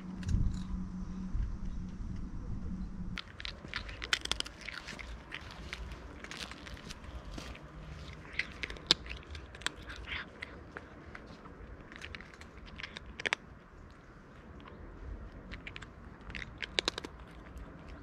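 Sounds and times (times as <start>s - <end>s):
cat crunching dry kibble: 3.2s - 18.0s.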